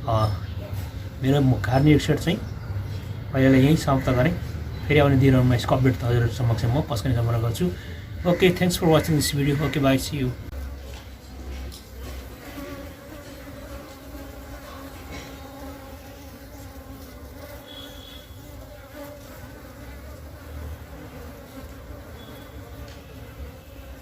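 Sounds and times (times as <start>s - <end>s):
bees buzzing: 0.5s - 24.0s.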